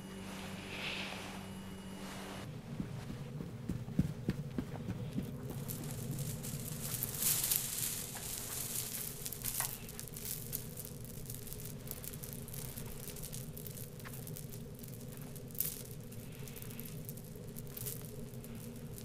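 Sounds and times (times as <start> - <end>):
crackling and rustling: 0.0 - 19.0
steady low hum: 0.0 - 19.0.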